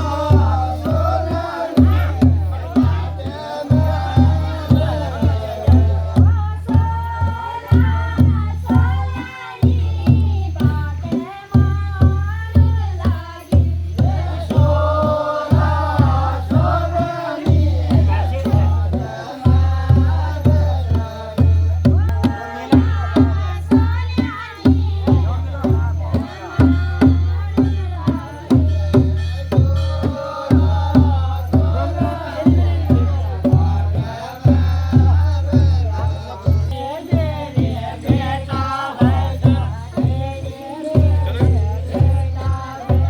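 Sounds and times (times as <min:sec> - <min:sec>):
folk singing voices: 0:00.0 - 0:43.0
steady drum beat: 0:00.0 - 0:43.0.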